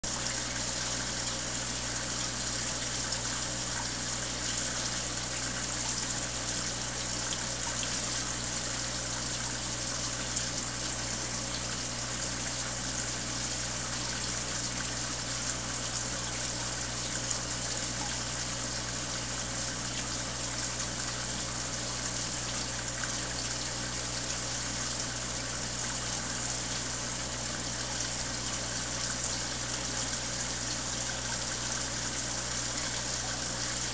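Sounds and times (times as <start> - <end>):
water pump humming: 0.0 - 33.9.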